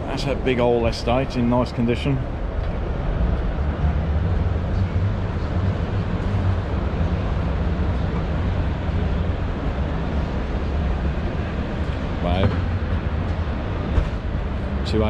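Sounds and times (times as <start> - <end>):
busy indoor hall rumble: 0.0 - 15.0.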